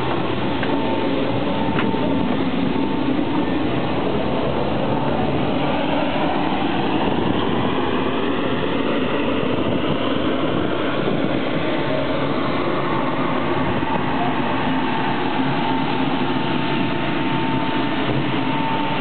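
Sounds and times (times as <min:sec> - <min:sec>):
jet turbine running: 0:00.0 - 0:19.0.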